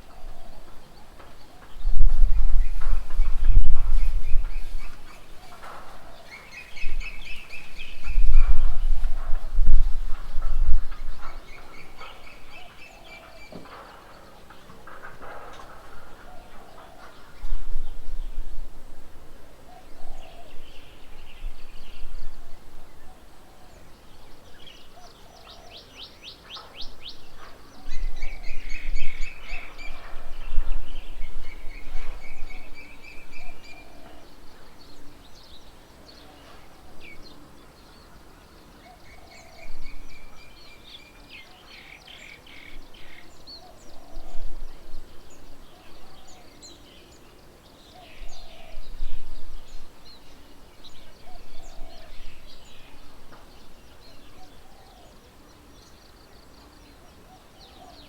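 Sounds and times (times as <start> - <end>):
birds chirping trills: 0.0 - 58.0.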